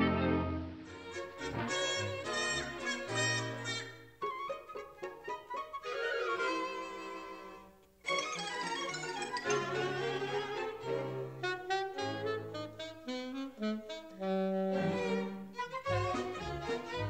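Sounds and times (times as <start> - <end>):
orchestral cartoon music: 0.0 - 17.0.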